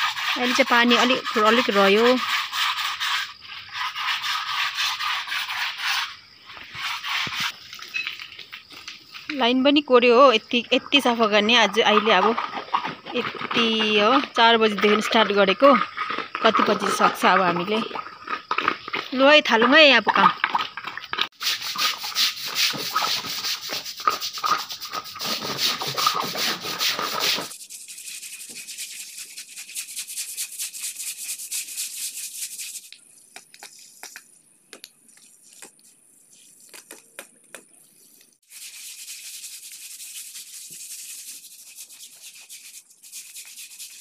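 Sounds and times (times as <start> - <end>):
brushes scraping wet concrete: 0.0 - 8.0, 11.0 - 17.9, 21.2 - 34.2, 35.1 - 44.0.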